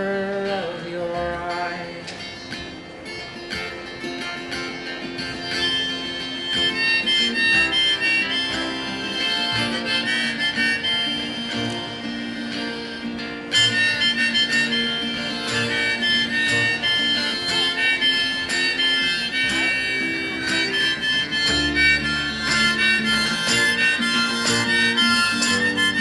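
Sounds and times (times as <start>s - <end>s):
strummed acoustic guitar: 0.0s - 26.0s
plucked double bass: 2.9s - 26.0s
harmonica solo: 4.4s - 26.0s.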